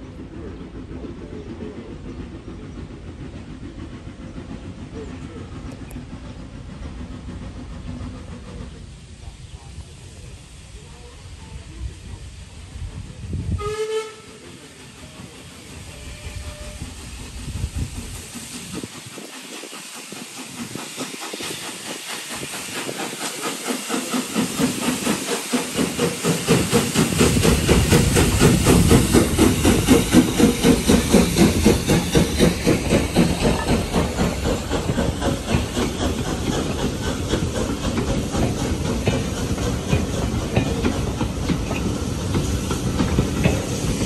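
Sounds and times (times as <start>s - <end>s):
steam hissing: 0.0s - 44.0s
steam locomotive chuffing: 0.0s - 44.0s.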